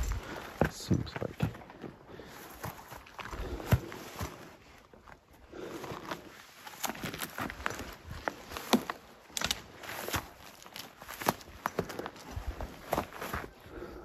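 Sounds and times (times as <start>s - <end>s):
footsteps on grass and stones: 0.0s - 13.9s
grass rustling: 2.2s - 13.7s.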